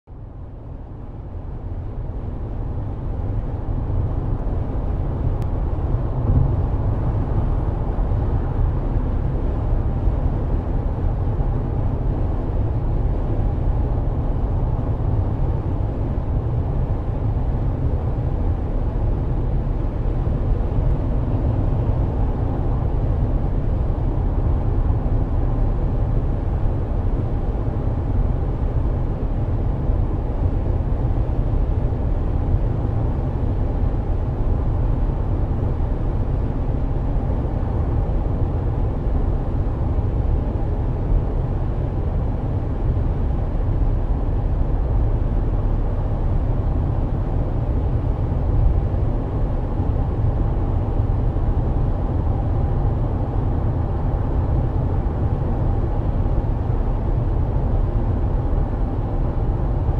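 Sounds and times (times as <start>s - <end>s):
car engine rumble: 0.1s - 59.9s
road noise: 2.3s - 59.9s.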